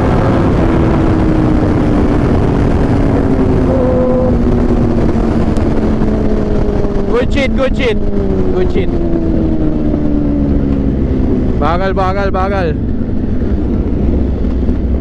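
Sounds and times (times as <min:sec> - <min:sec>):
motorcycle engine running: 0:00.0 - 0:15.0
wind rumble: 0:00.0 - 0:15.0.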